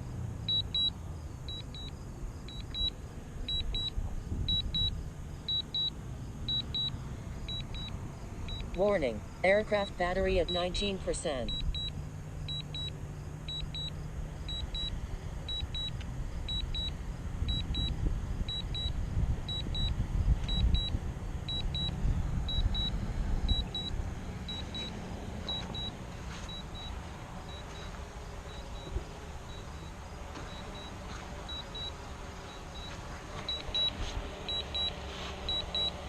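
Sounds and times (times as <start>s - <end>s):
steady low rumble: 0.0s - 30.8s.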